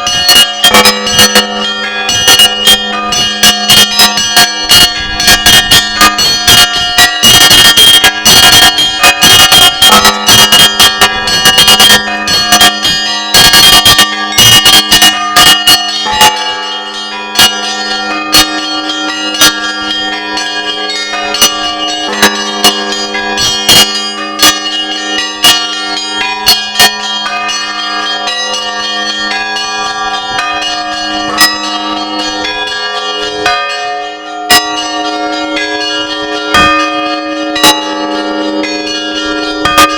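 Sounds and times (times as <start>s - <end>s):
church bells ringing: 0.0s - 39.9s
hum of large bells: 0.0s - 39.9s.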